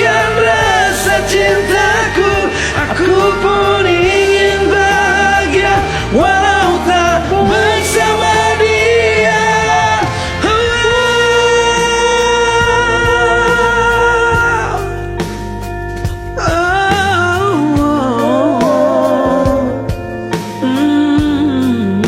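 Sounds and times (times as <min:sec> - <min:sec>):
pop ballad backing track: 0:00.0 - 0:22.0.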